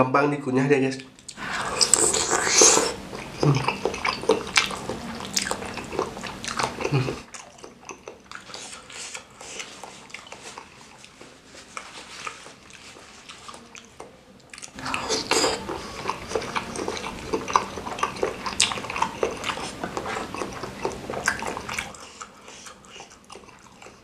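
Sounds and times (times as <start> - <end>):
wet chewing clicks and smacks: 1.0 - 24.0.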